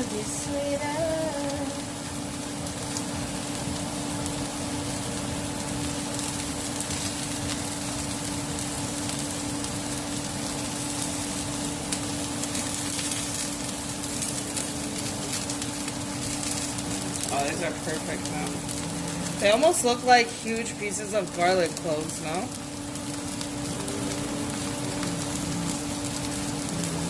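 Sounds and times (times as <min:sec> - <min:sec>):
constant low hum: 0:00.0 - 0:27.0
mushrooms sizzling in a pan: 0:00.0 - 0:27.0.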